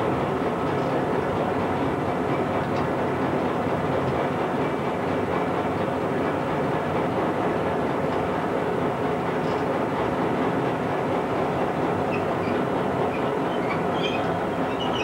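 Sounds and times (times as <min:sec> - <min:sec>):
diesel locomotive engine and wheels: 0:00.0 - 0:15.0.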